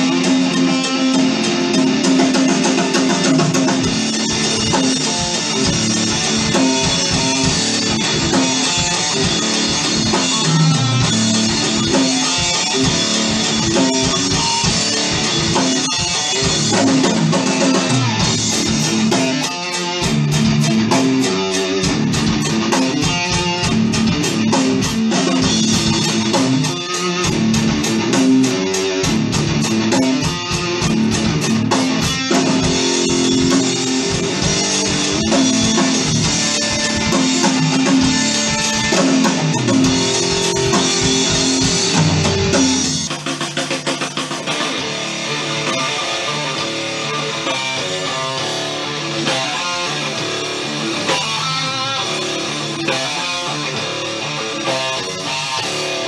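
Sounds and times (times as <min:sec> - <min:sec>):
hard rock music: 0:00.0 - 0:56.0.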